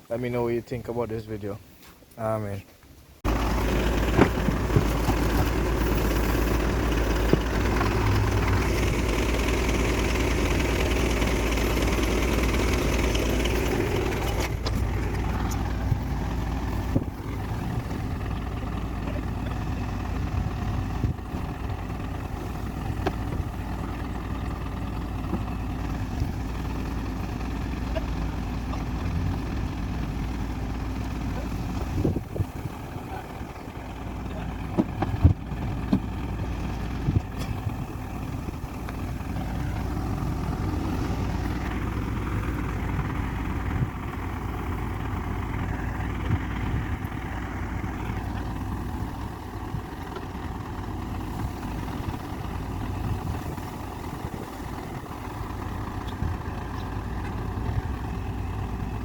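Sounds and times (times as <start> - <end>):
car engine running: 3.2 - 59.0.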